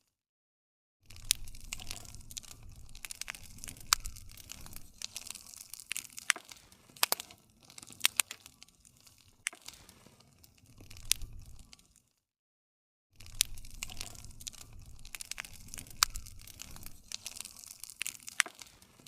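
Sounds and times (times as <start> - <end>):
campfire pops and snaps: 1.1 - 12.0, 13.2 - 19.0
low rumble of flames: 1.1 - 12.0, 13.2 - 19.0.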